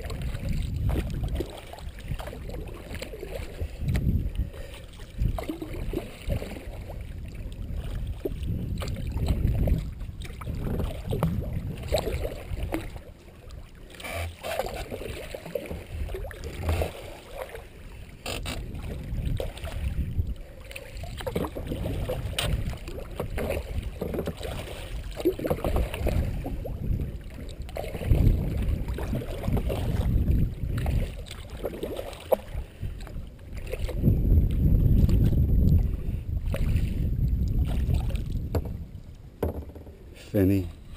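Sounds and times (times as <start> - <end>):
paddle splashing in water: 0.0 - 40.9
water swishing along hull: 0.0 - 40.9.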